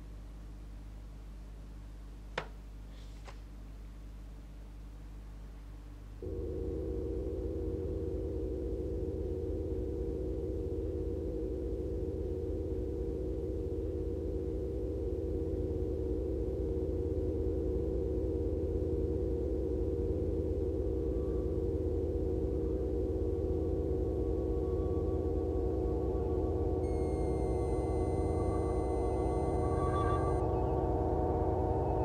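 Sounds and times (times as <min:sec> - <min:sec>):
low hum: 0:04.0 - 0:32.0
electronic drone of held tones: 0:06.2 - 0:32.0.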